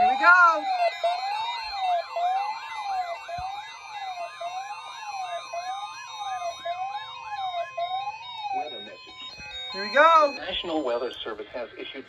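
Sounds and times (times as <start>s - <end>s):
rising and falling siren tone: 0.0s - 11.0s
warbling alarm sweeps: 0.0s - 11.1s
steady high alarm tone: 0.0s - 11.4s.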